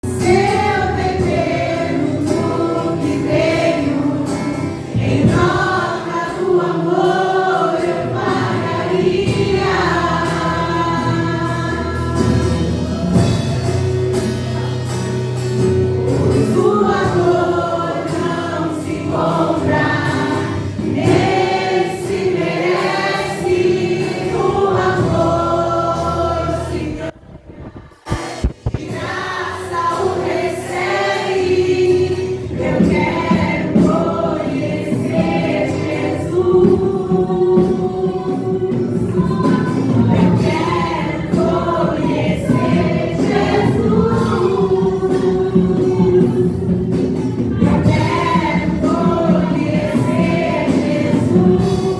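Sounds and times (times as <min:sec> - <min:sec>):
group singing gospel song: 0:00.0 - 0:51.9
instrumental backing: 0:00.0 - 0:51.9.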